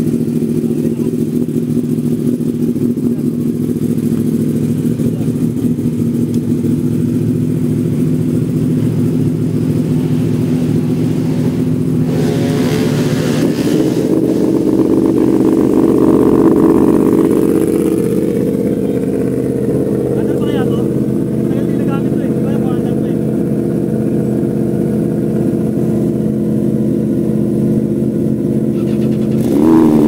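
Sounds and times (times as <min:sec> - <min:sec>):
motorcycle engine revving: 0:00.0 - 0:30.0
motorcycle engines idling: 0:00.0 - 0:30.0.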